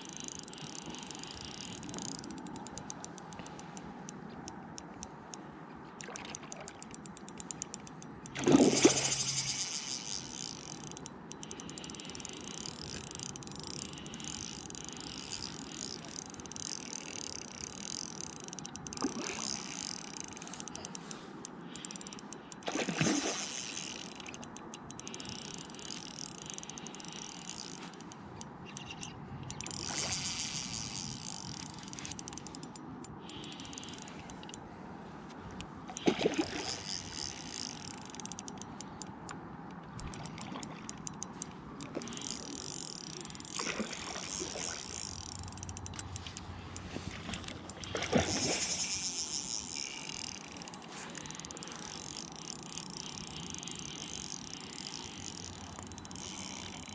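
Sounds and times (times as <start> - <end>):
fishing reel ticking and whirring: 0.0 - 34.8, 35.5 - 56.9.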